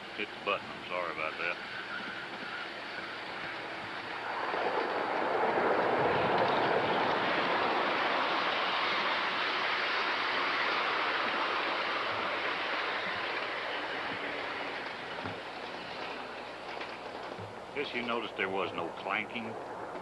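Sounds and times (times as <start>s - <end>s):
steam hissing: 0.0s - 19.5s.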